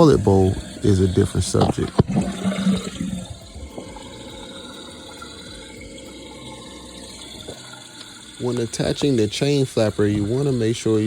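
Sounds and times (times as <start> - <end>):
toilet tank refilling: 0.0 - 11.0.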